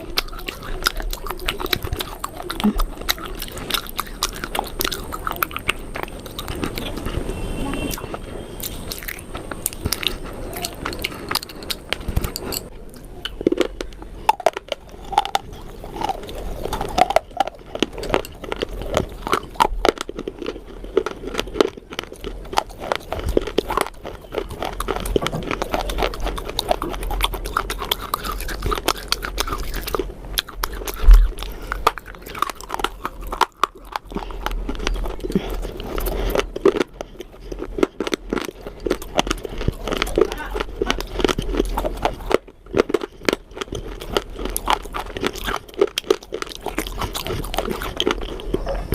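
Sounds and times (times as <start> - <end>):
crunching baked clay: 0.0 - 48.9.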